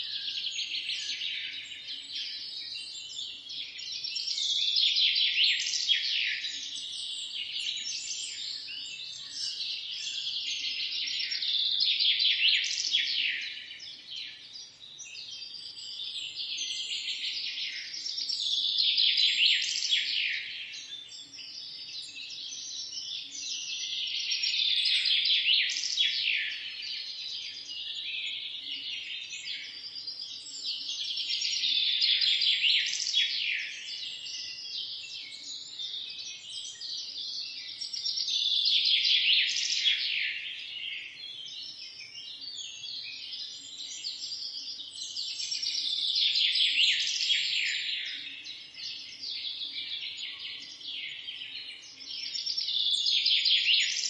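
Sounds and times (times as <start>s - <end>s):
small birds chirping chorus: 0.0s - 54.0s.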